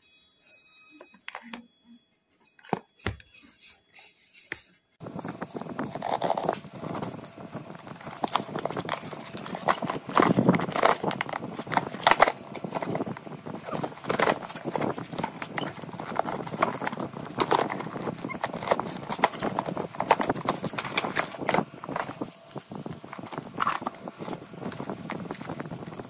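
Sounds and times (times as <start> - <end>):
cardboard box rustling and scraping: 5.0 - 26.0.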